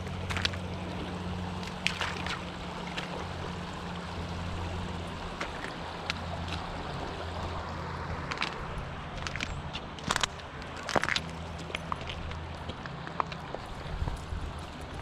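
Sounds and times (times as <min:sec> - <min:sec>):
creek water rippling over stones: 0:00.0 - 0:15.0.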